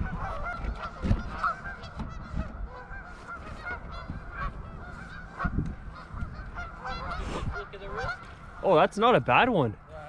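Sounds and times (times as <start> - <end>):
geese honking: 0.0 - 10.0.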